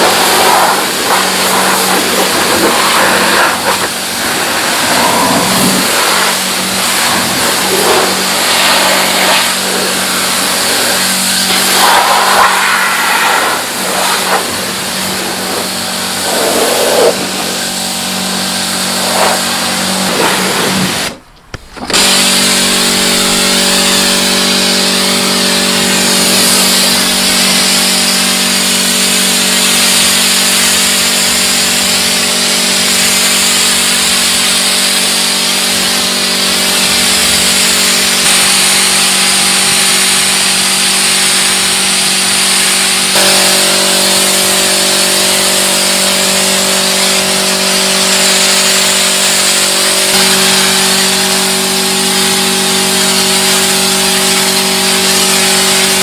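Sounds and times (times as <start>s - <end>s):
high-pressure spray hissing: 0.0s - 21.3s, 22.0s - 56.0s
pressure washer motor hum: 0.0s - 56.0s.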